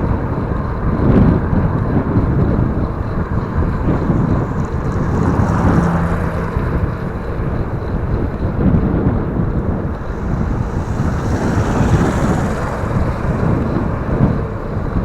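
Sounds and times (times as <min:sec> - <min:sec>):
low hum: 0:00.0 - 0:15.0
wind buffeting microphone: 0:00.0 - 0:15.0.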